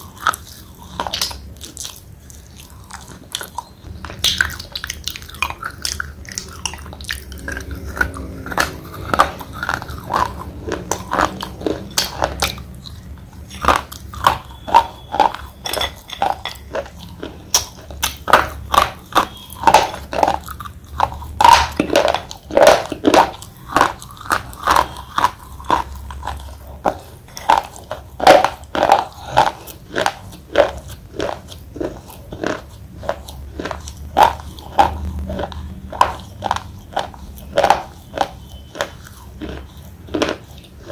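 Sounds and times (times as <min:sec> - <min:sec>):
slate pencils crunching when chewed: 0:00.0 - 0:40.9.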